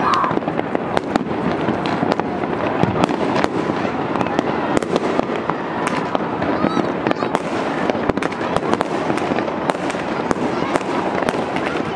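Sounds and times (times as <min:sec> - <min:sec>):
fireworks crackling and popping: 0:00.0 - 0:11.9
sharp firework bangs: 0:00.0 - 0:11.9.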